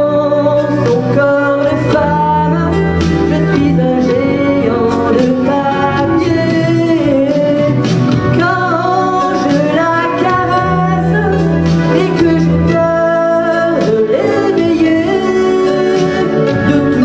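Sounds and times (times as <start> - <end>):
amplified music backing track: 0.0 - 17.0
woman singing into a microphone: 0.0 - 17.0.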